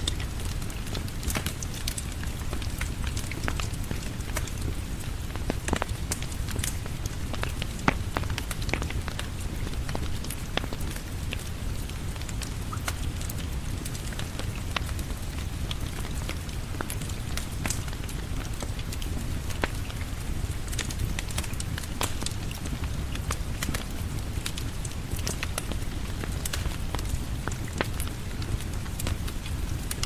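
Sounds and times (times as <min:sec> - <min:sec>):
fireplace crackling: 0:00.0 - 0:30.0
steady rain: 0:00.0 - 0:30.0.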